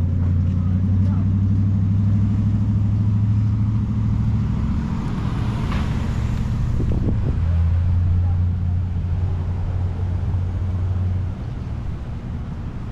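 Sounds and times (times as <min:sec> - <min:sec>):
large engine humming: 0:00.0 - 0:12.9.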